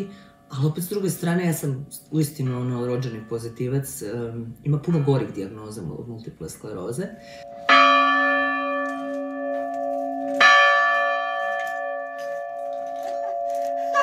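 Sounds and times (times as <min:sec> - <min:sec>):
church bell ringing: 0:00.0 - 0:06.1, 0:07.2 - 0:14.0.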